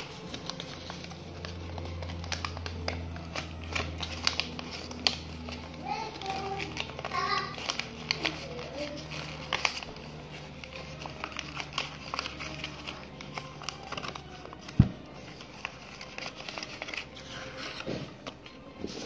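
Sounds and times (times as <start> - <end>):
paper rustling and crinkling: 0.0 - 19.0.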